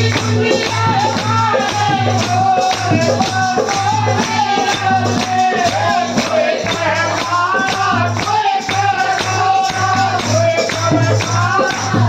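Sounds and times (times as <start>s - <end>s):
person singing devotional song: 0.0s - 12.0s
steady drum beat: 0.0s - 12.0s.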